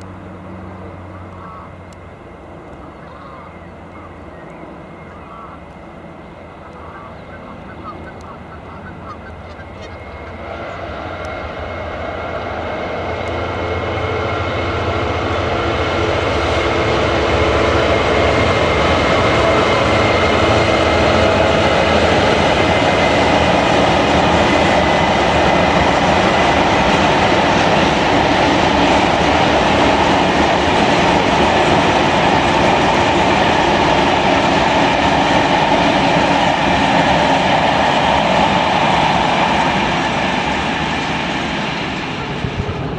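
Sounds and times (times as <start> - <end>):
diesel locomotive engine rumble: 0.0 - 42.9.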